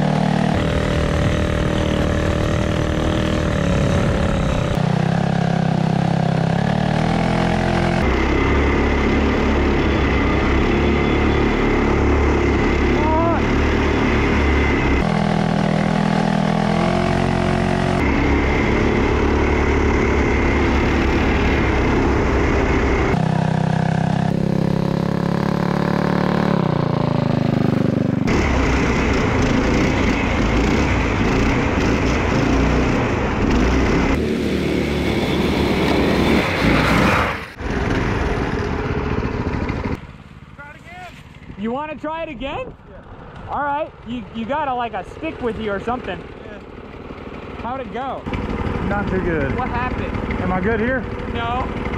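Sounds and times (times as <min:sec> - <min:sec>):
go kart engines revving: 0:00.0 - 0:51.9.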